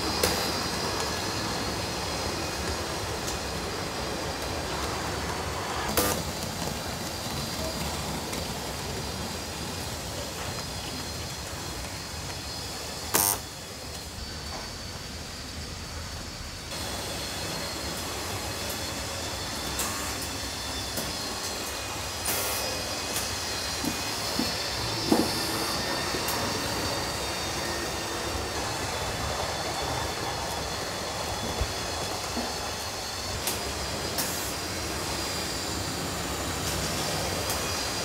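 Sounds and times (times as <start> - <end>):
small motors whirring: 0.0 - 15.8, 16.5 - 38.0.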